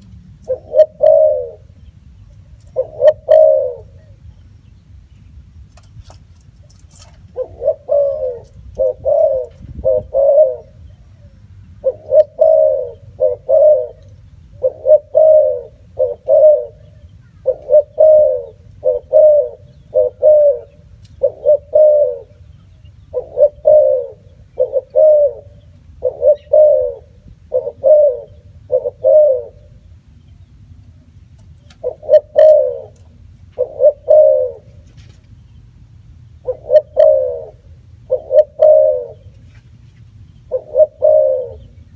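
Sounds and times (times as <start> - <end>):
dove cooing: 0.0 - 4.4, 6.6 - 29.9, 30.9 - 35.0, 36.3 - 39.8, 40.4 - 41.9.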